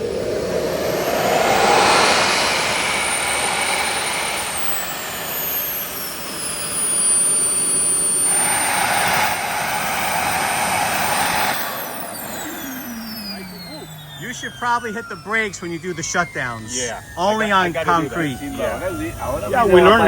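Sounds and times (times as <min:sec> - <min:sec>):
exhaust rush: 0:00.0 - 0:20.0
jet turbine whine: 0:00.0 - 0:20.0.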